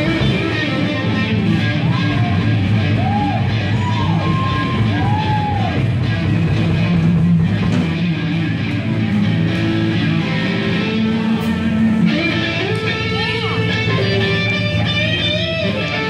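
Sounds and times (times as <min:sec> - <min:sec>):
bass guitar: 0:00.0 - 0:16.0
drums: 0:00.0 - 0:16.0
electric guitar lead notes: 0:00.0 - 0:16.0.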